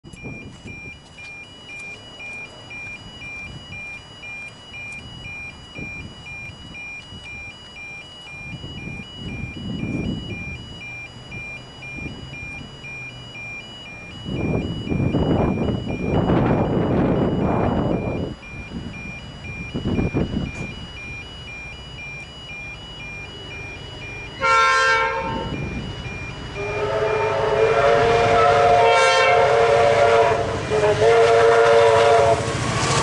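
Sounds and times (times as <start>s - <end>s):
two-tone level crossing alarm: 0.0s - 33.0s.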